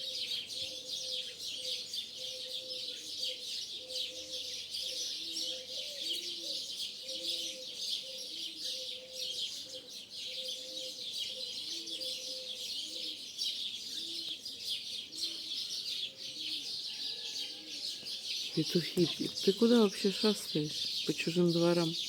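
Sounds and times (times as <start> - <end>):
dove cooing: 0.0 - 21.8
small birds chattering: 0.0 - 22.0.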